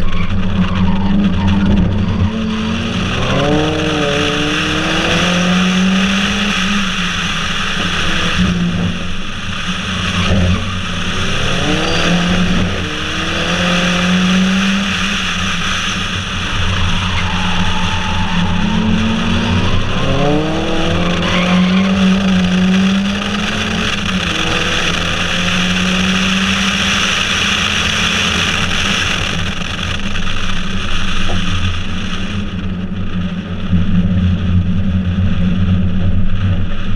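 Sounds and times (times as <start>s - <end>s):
car engine revving through gears: 0.0s - 36.5s
wind and road noise: 0.0s - 36.9s.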